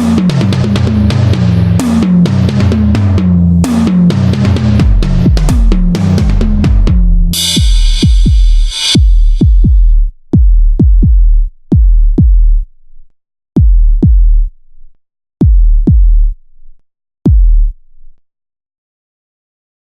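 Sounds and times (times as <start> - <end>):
deep electronic kick drums: 0.0 - 13.0, 13.6 - 18.2.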